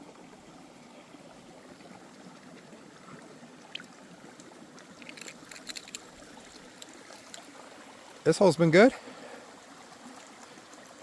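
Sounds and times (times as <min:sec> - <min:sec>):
creek flowing: 0:00.0 - 0:11.0.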